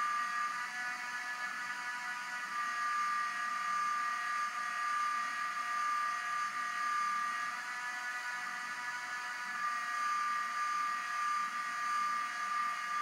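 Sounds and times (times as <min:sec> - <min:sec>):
steady machine whine: 0:00.0 - 0:13.0.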